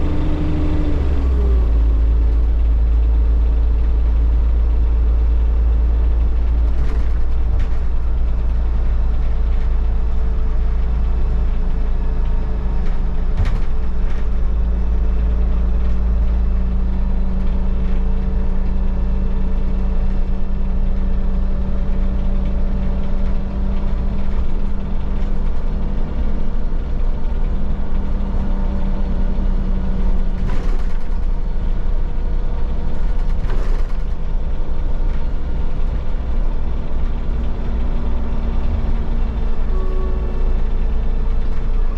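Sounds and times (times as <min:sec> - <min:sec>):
bus engine drone: 0:00.0 - 0:41.9
clicks and knocks from bus body: 0:05.9 - 0:41.9.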